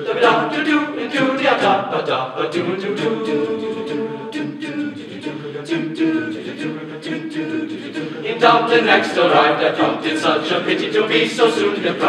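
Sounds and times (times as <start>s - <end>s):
male choir singing a cappella: 0.0s - 12.0s.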